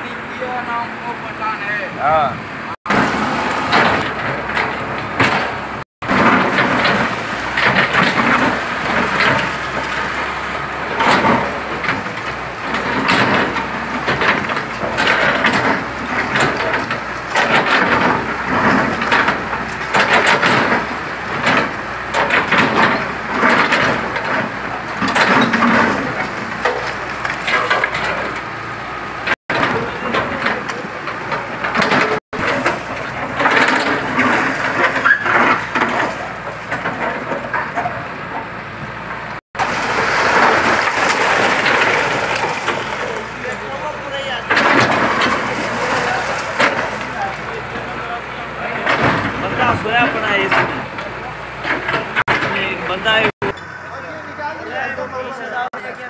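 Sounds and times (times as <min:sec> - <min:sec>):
excavator engine rumble: 0:00.0 - 0:56.0
masonry crashing and crumbling: 0:02.9 - 0:38.6, 0:39.5 - 0:53.6
falling rubble: 0:02.9 - 0:53.6.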